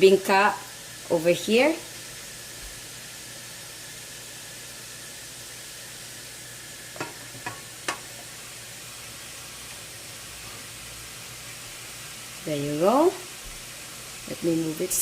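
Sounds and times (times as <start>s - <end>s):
steamer hissing: 0.0s - 15.0s.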